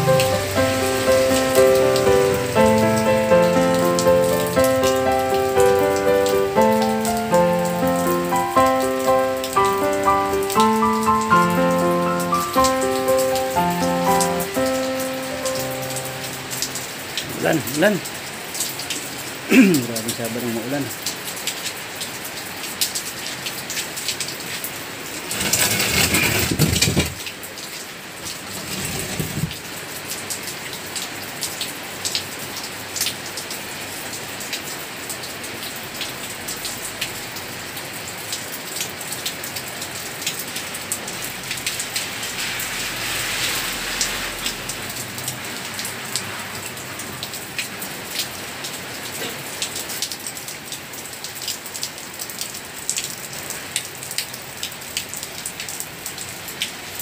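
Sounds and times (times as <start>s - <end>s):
heavy rain on concrete and roofing: 0.0s - 57.0s.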